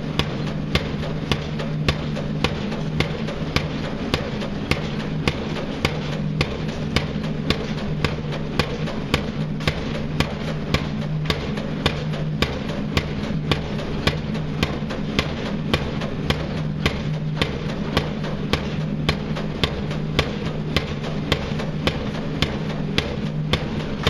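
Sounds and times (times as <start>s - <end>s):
pile driver hammer striking: 0.0s - 24.0s.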